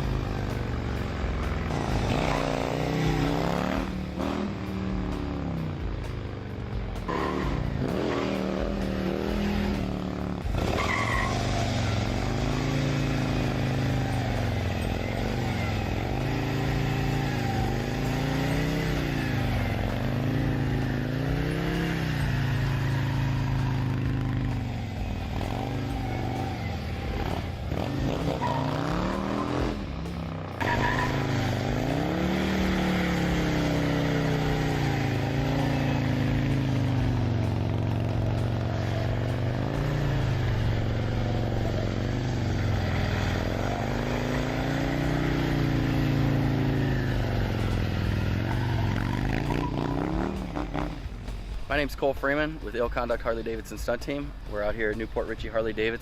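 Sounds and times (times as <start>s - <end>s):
motorcycle engine revving: 0.0s - 51.6s.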